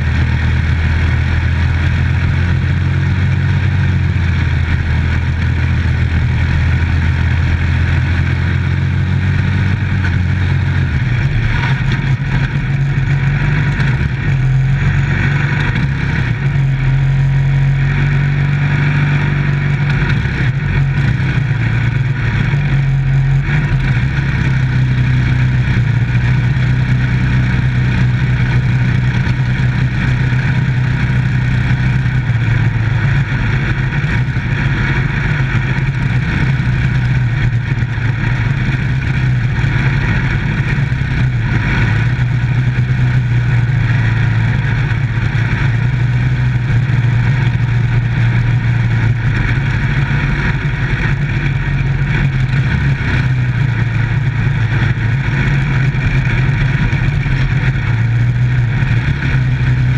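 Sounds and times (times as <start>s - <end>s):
constant rushing noise: 0.0s - 59.9s
race car engine running: 0.0s - 59.9s.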